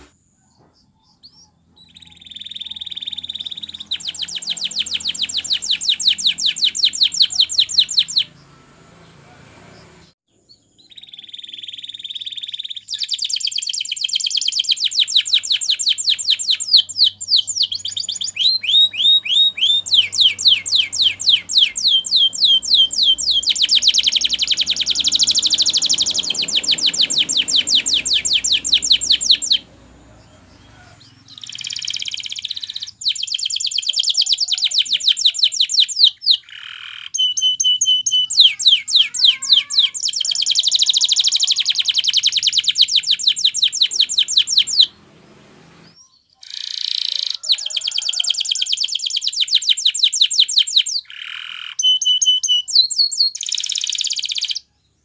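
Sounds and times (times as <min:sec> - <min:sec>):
canary singing trills: 0:00.0 - 0:45.1, 0:45.7 - 0:55.0.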